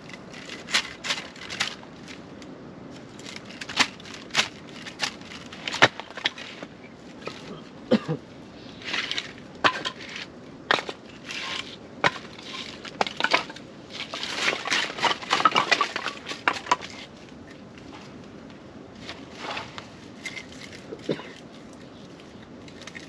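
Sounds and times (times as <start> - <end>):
rustling and crinkling: 0.0 - 23.0.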